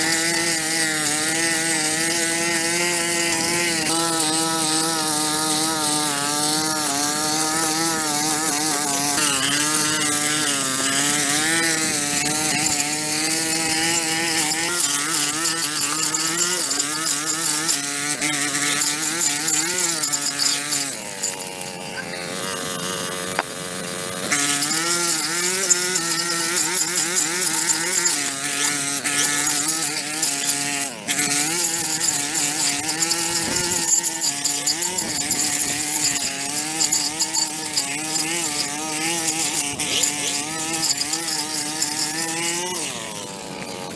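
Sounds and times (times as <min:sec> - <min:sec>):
gas-engine power tool running: 0:00.0 - 0:43.9.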